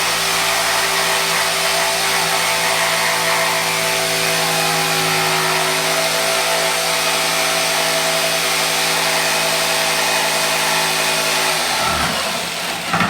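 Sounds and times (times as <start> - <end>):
jigsaw cutting wood: 0.0 - 13.0.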